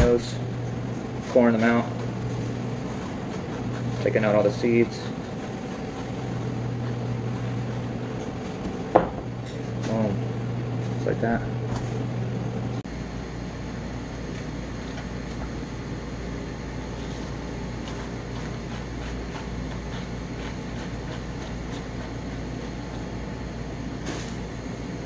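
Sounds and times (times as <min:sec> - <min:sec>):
kitchen ventilation hum: 0:00.0 - 0:25.0.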